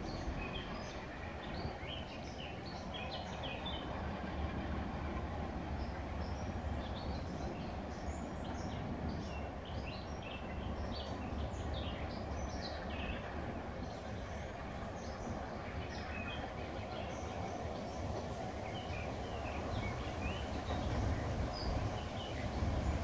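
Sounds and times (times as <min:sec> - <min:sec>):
small birds chirping and twittering: 0:00.0 - 0:04.7, 0:05.8 - 0:23.0
steady low rumble: 0:03.6 - 0:23.0.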